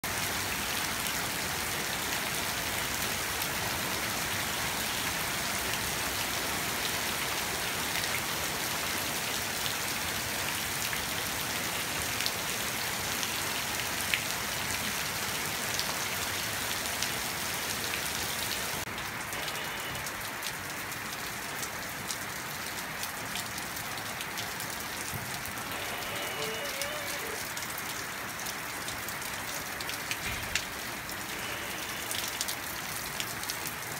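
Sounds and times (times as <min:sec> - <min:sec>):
heavy rain on puddles: 0:00.0 - 0:33.9.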